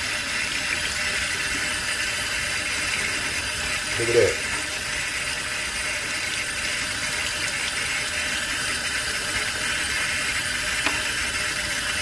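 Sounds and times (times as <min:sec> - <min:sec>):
faucet water splashing on metal: 0:00.0 - 0:12.0.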